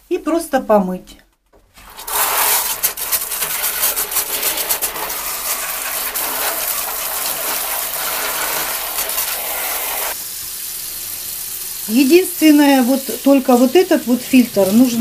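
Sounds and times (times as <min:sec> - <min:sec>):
shower water splashing: 0:01.7 - 0:15.0.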